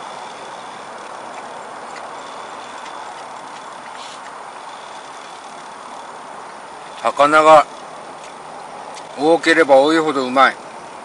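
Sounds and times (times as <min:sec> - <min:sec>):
small fans running: 0:00.0 - 0:11.0.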